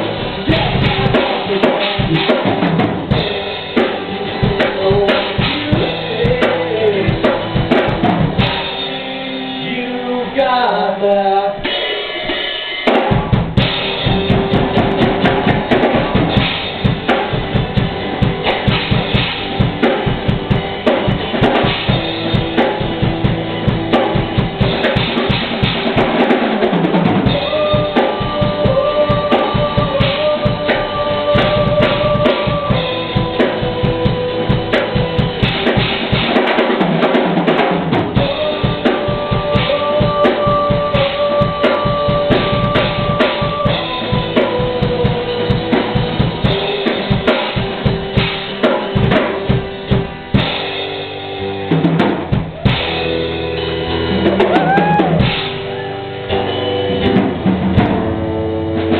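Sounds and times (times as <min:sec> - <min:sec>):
drum kit kick and snare: 0:00.0 - 0:09.1, 0:11.6 - 0:58.9
live band playing: 0:00.0 - 0:58.9.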